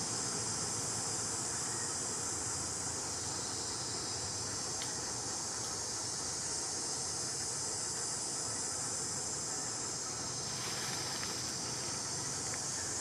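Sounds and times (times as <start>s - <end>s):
even hiss: 0.0s - 13.0s
insect chorus drone: 0.0s - 13.0s.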